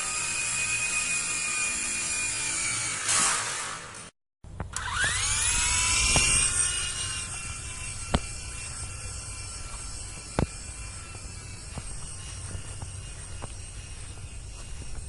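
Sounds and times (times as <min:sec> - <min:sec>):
toy helicopter motor whine: 0:00.0 - 0:04.0, 0:04.7 - 0:15.0.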